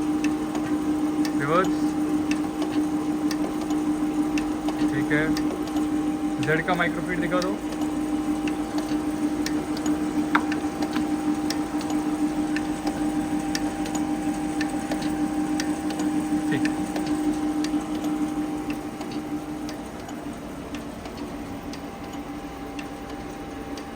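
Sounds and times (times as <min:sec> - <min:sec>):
grinder humming: 0:00.0 - 0:22.8.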